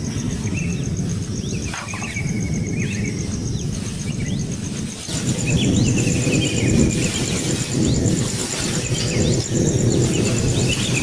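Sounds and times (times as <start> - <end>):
insect high pulsing: 0.0 - 11.0
small birds chirping: 0.0 - 11.0
steady low rumble: 0.0 - 11.0.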